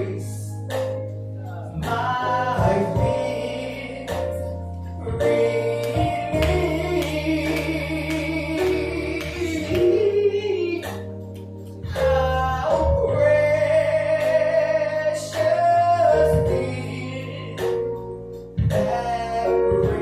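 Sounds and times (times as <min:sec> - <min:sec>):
instrumental accompaniment: 0:00.0 - 0:20.0
person singing gospel song: 0:00.0 - 0:20.0.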